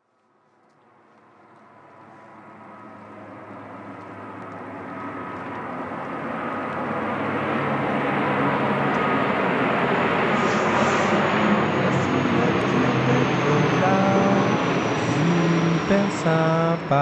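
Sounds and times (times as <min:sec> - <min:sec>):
faint steady tones: 0:01.2 - 0:17.0
rumbling hissing noise build-up: 0:02.0 - 0:17.0.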